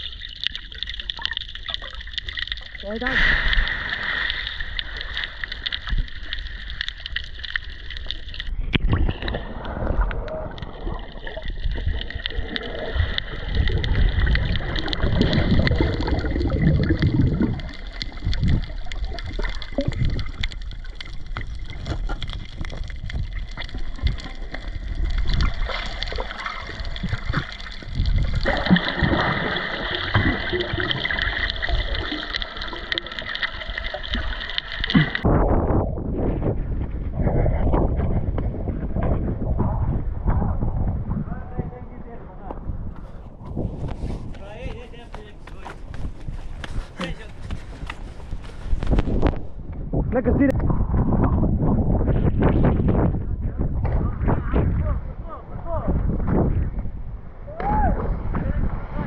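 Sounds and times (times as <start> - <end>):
underwater gurgling and rushing: 0.0 - 59.0.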